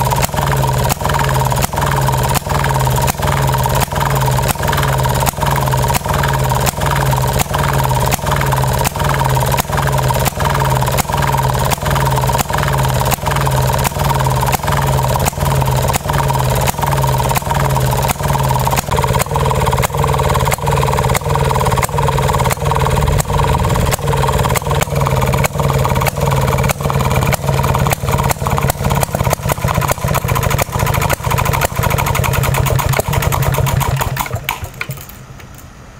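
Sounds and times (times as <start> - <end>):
two-stroke engine popping: 0.0 - 35.2.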